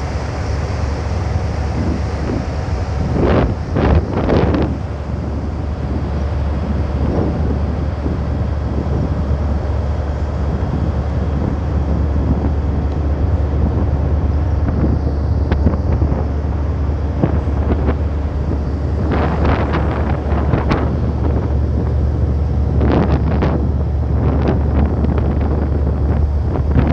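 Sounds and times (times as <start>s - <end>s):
boat engine droning: 0.0s - 26.9s
wind on microphone: 0.0s - 26.9s.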